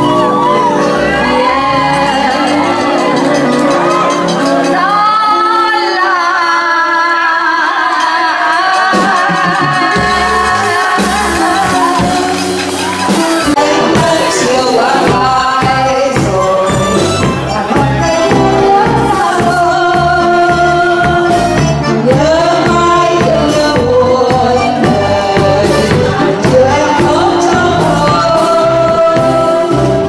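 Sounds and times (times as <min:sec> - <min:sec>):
bass and drum beat: 0:00.0 - 0:05.4, 0:08.5 - 0:30.0
live band music: 0:00.0 - 0:30.0
woman singing ballad into microphone: 0:04.7 - 0:30.0.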